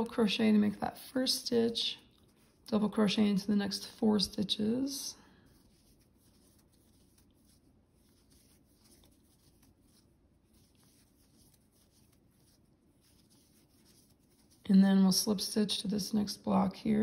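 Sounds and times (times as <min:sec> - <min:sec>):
yarn rustling through stitches: 0:00.0 - 0:16.2.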